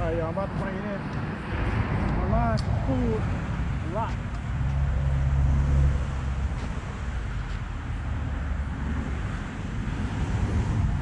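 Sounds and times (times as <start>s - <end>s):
outdoor air noise: 0.0s - 11.0s
wind rumble on microphone: 0.0s - 11.0s.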